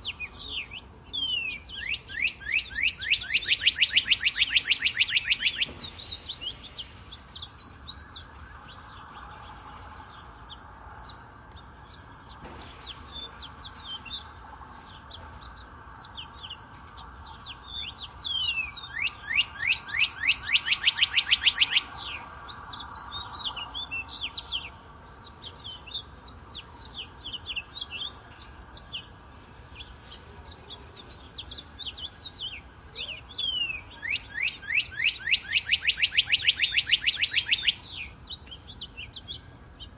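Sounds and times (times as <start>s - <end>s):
bird trill: 0.0s - 39.9s
songbirds chirping: 0.0s - 39.9s.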